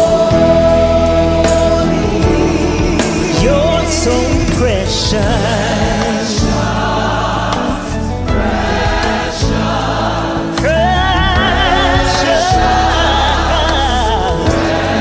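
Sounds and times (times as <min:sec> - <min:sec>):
gospel choir with band: 0:00.0 - 0:15.0.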